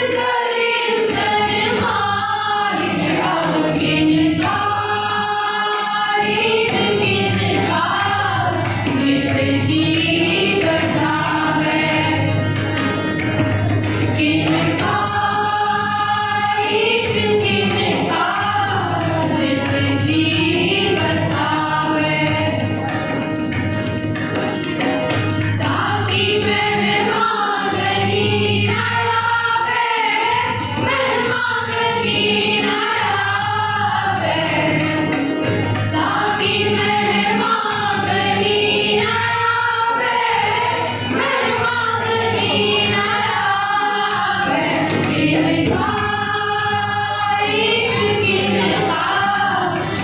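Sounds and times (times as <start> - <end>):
children's choir singing a hymn: 0.0 - 12.6, 14.1 - 22.7, 25.6 - 50.0
hand drums: 0.0 - 50.0.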